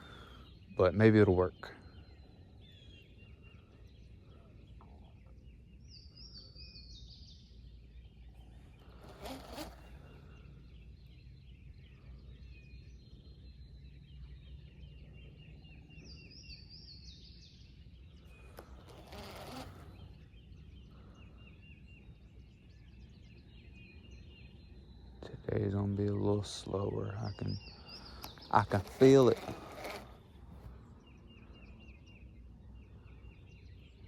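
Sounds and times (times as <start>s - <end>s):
faint bird chirps: 0.0s - 34.0s
songbird singing: 0.0s - 34.0s.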